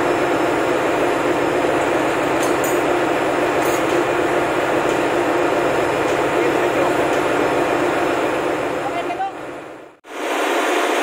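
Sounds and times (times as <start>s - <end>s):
engine room machinery drone: 0.0s - 11.0s.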